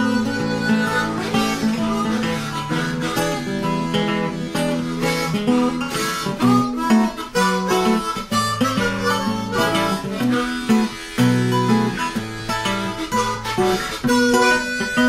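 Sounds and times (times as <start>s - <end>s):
harmonica playing held notes: 0.0s - 15.0s
strummed acoustic guitar: 0.0s - 15.0s.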